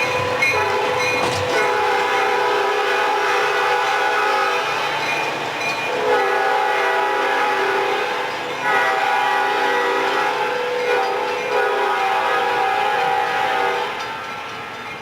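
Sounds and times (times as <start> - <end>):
locomotive air horn blasts: 0.0 - 4.6, 5.9 - 14.0.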